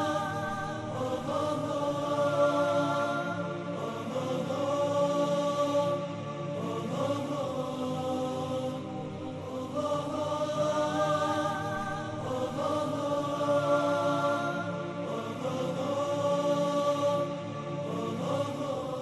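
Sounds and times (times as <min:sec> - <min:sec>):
choir-like voices chanting: 0:00.0 - 0:19.0.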